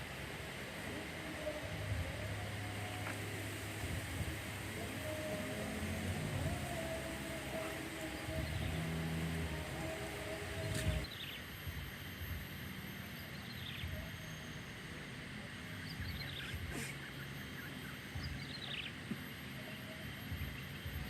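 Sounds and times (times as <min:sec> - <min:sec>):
steady high hum: 0:00.0 - 0:21.0.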